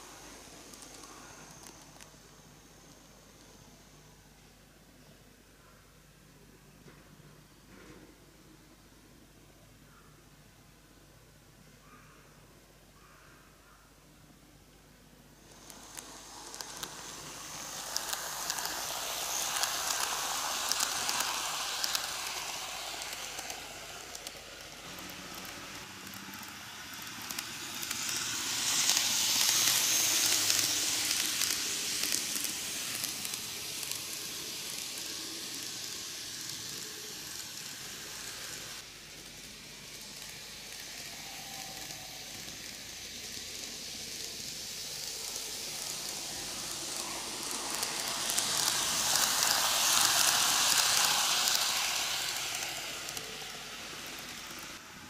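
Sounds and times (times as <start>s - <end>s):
model train wheels on rails: 0.0s - 5.3s, 14.7s - 55.0s.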